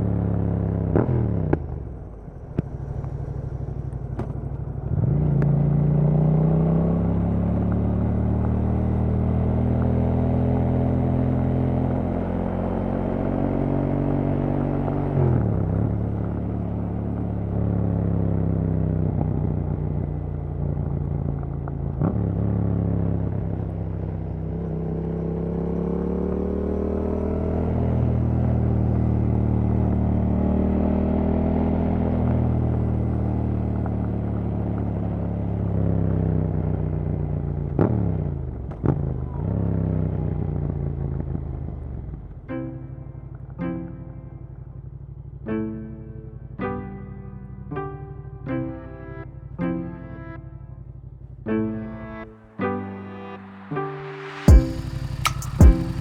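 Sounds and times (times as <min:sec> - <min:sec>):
engine throttle blips: 0:00.0 - 0:30.8, 0:31.4 - 0:56.0
motorcycle engine accelerating: 0:00.0 - 0:56.0.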